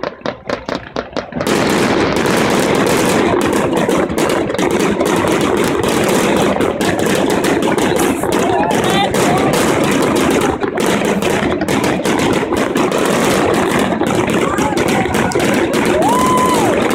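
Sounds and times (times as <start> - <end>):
firework bangs: 0.0 - 16.9
rapid crackle of fireworks: 0.0 - 16.9.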